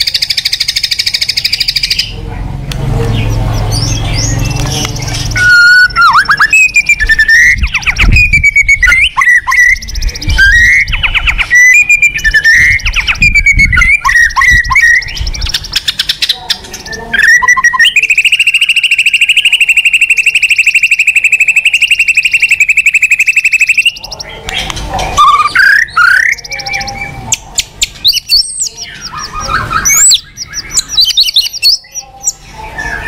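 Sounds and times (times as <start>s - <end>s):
rapid bird trill: 0.0s - 2.2s, 3.0s - 33.0s
bird singing whistled phrases: 3.2s - 27.2s, 27.8s - 33.0s.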